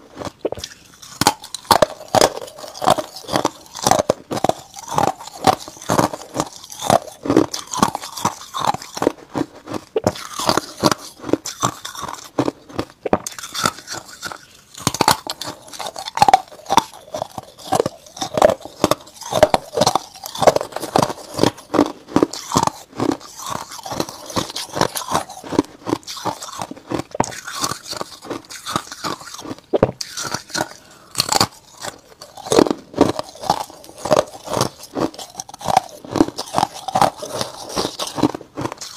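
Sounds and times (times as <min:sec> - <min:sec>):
ice being chewed crunching: 0:00.0 - 0:38.9.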